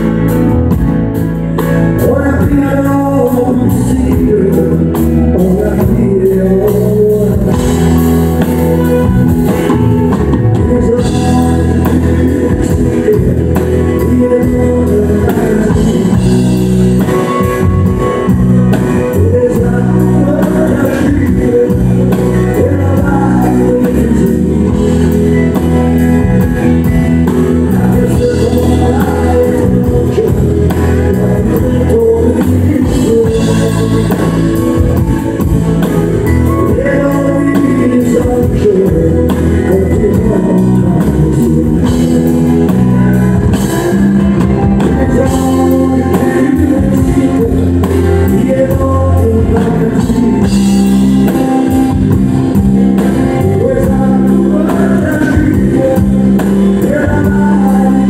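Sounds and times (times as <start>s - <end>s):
man singing country song: 0.0s - 58.0s.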